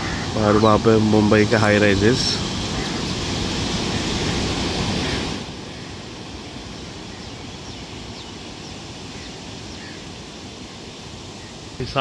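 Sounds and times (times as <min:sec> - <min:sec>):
sea surf washing onto beach: 0:00.0 - 0:12.0.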